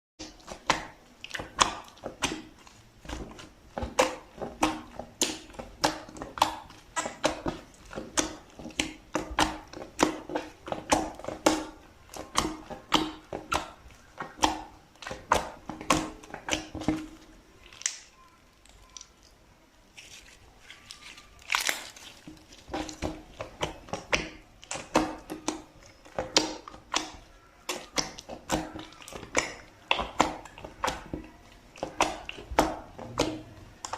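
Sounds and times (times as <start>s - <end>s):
slime squished by hand: 0.2s - 33.9s.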